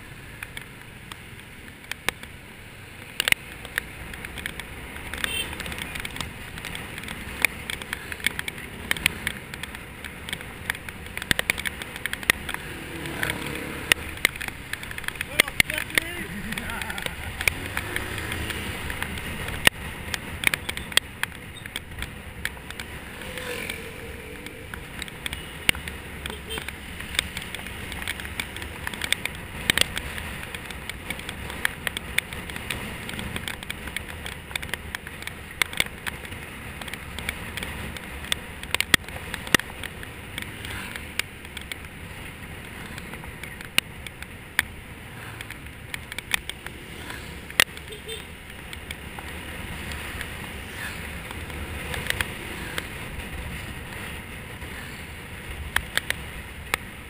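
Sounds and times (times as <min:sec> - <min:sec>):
scooter engine and wind rumble: 0:00.0 - 0:57.0
sharp clicks and knocks: 0:00.3 - 0:57.0.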